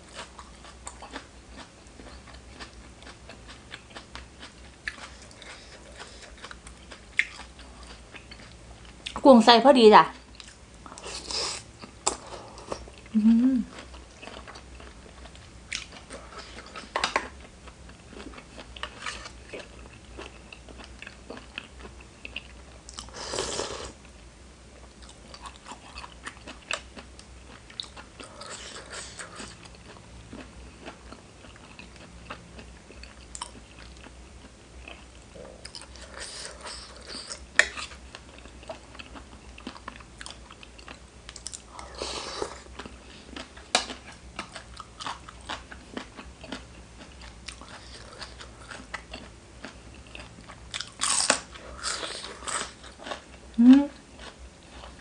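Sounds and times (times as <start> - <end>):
wet chewing and lip-smacking: 0.1 - 9.2, 13.7 - 23.2, 25.0 - 53.4.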